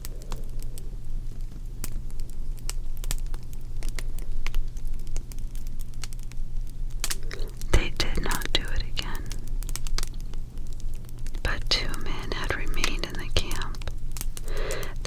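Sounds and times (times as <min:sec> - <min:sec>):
steady low hum: 0:00.0 - 0:15.0
wood fire crackling: 0:00.0 - 0:15.0.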